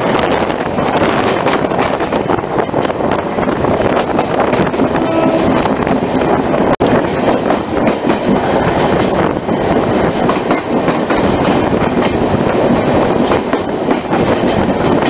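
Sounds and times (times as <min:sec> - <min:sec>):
train clicks and rattles: 0:00.0 - 0:15.0
train wheels rumbling on rails: 0:00.0 - 0:15.0.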